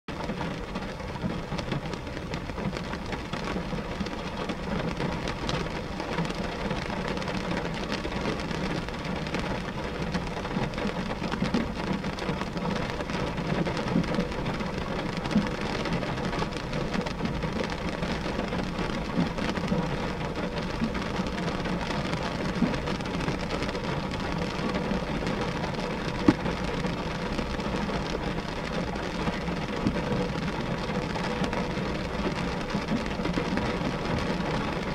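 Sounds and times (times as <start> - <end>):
rain on a glass window: 0.1 - 34.9.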